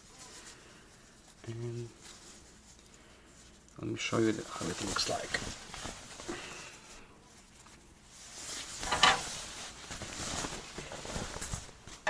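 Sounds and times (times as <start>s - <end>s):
thin fabric rustling: 0.0s - 12.0s.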